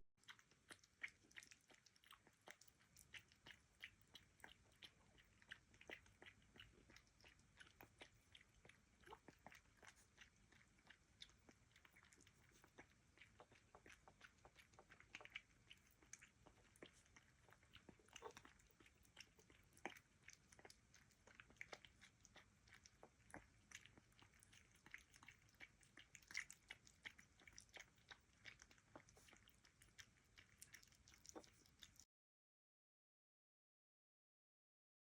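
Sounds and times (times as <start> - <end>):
puppy chewing food: 0.2 - 32.1.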